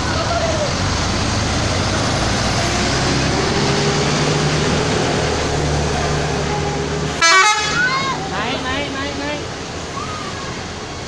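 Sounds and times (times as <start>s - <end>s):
bus engines humming: 0.0s - 11.0s
road noise: 0.0s - 11.0s.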